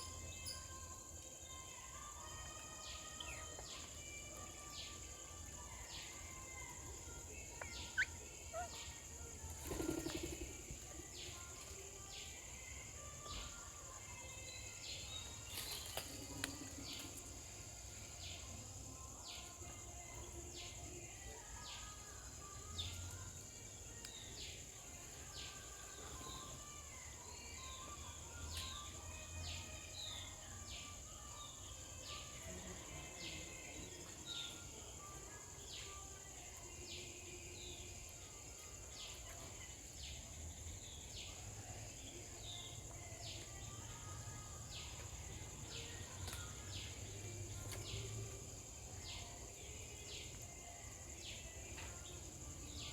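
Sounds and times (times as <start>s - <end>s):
high insect drone: 0.0s - 52.9s.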